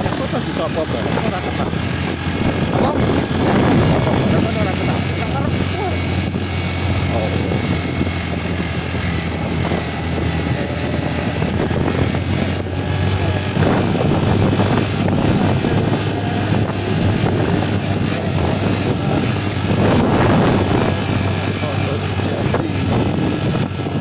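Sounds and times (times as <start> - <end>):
vehicle engine humming: 0.0 - 24.0
wind and road noise: 0.0 - 24.0.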